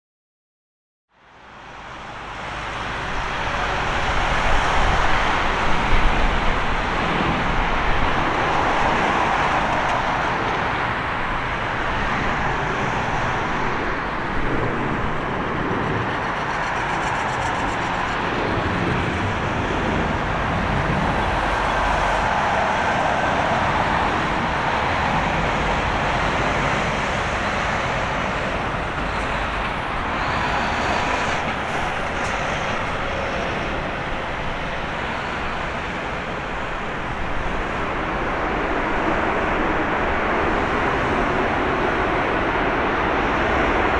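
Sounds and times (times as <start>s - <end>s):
jet engines roaring: 1.7s - 43.9s.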